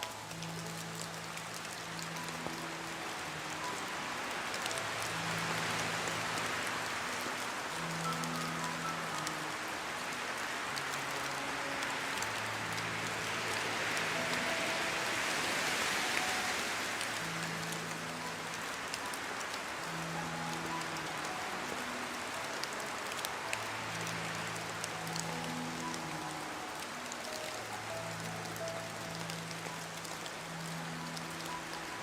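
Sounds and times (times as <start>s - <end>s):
rain pattering: 0.0s - 32.0s
soft music with low held notes: 0.0s - 32.0s.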